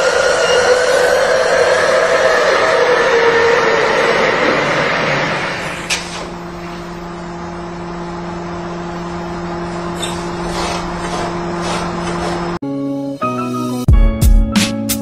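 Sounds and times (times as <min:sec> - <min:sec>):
machine hum with high tone: 0:00.0 - 0:12.6.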